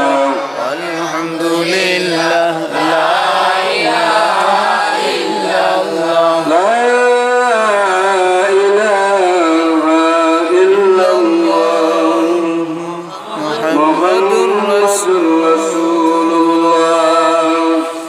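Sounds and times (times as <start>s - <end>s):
man chanting into a microphone: 0.0s - 3.1s, 5.8s - 18.0s.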